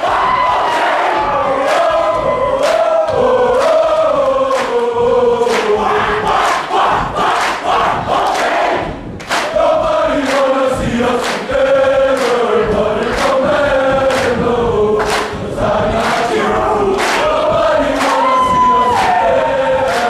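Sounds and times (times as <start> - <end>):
group singing in unison: 0.0 - 20.0.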